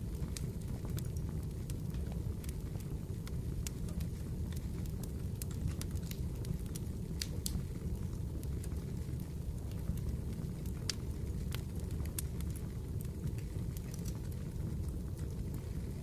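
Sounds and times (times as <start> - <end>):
fire popping and crackling: 0.0 - 16.0
fire rumbling: 0.0 - 16.0.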